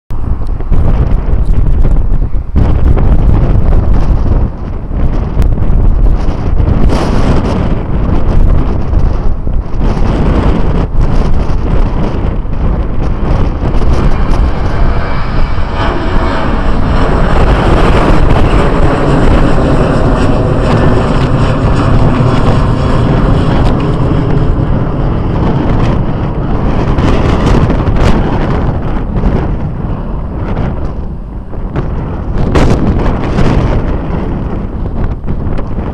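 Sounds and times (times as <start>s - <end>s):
jet engines roaring: 0.1s - 35.9s.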